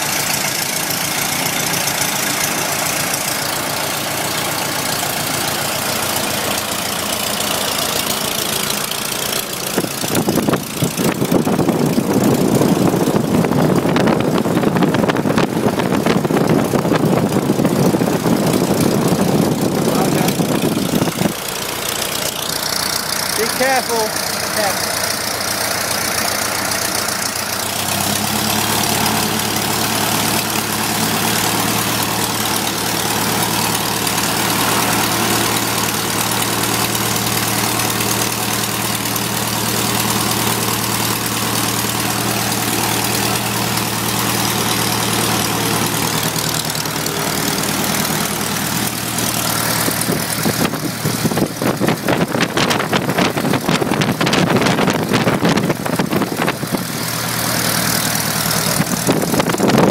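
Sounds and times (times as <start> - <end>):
aircraft engine running: 0.0 - 59.9.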